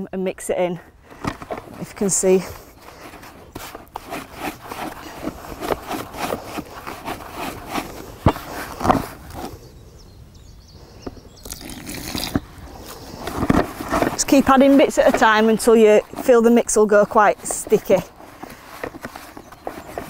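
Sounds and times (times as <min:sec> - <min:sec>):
hand scraping groundbait in bucket: 0:01.2 - 0:09.6, 0:11.4 - 0:20.0.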